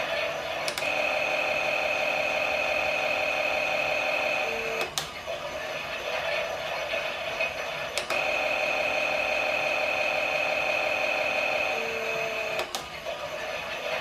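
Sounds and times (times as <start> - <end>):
toy washing machine whine: 0.0 - 14.0.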